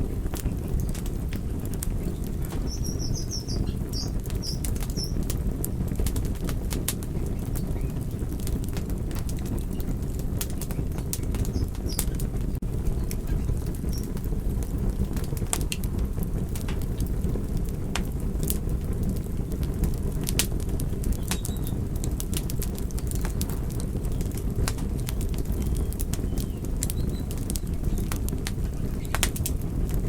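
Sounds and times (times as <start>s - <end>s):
crackles and pops of burning wood: 0.0s - 30.0s
low rumble of flames: 0.0s - 30.0s.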